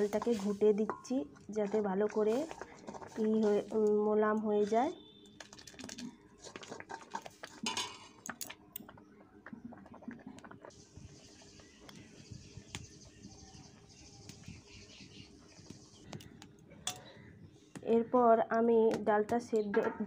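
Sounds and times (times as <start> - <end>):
liquid simmering and bubbling: 0.0 - 17.6.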